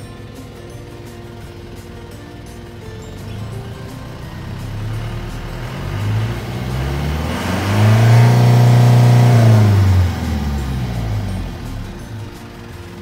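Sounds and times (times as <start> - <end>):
diesel truck engine revving: 0.0 - 13.0.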